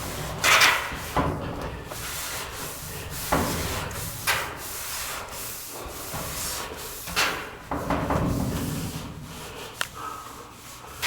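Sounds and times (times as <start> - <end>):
hand scrubbing inside air duct: 0.0 - 11.0.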